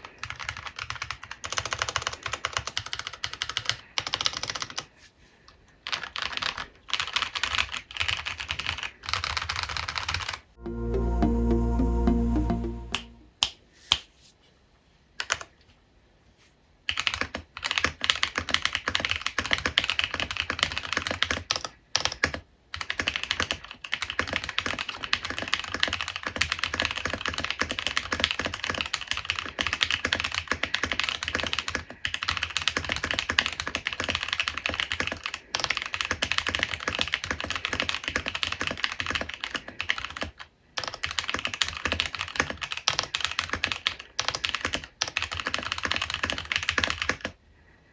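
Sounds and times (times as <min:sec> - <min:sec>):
mechanical keyboard typing: 0:00.0 - 0:04.9, 0:05.8 - 0:10.5, 0:15.2 - 0:15.5, 0:16.9 - 0:47.4.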